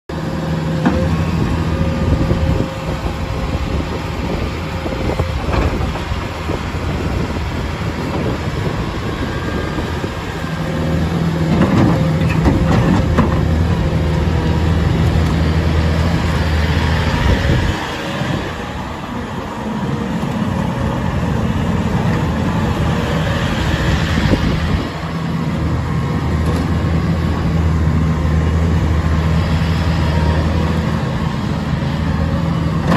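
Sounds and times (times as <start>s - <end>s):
diesel engine hum: 0.1s - 32.9s.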